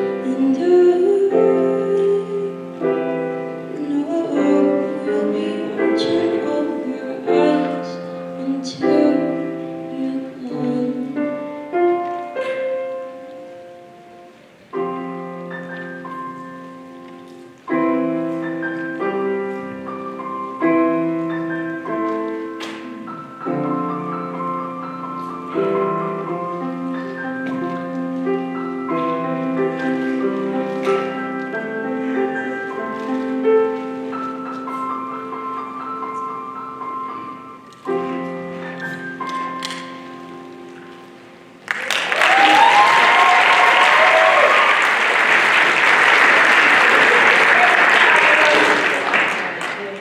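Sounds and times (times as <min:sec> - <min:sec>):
slow piano chords: 0:00.0 - 0:50.0.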